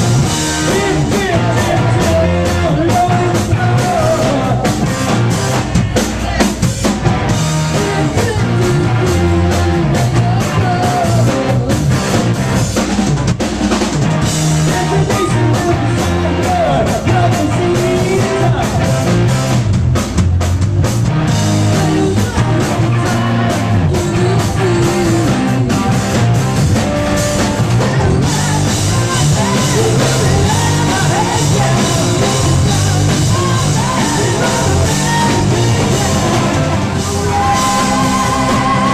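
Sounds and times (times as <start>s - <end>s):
person singing: 0.0s - 5.0s, 6.0s - 12.0s, 14.6s - 19.1s, 21.6s - 26.2s, 27.6s - 38.9s
live rock band playing: 0.0s - 38.9s.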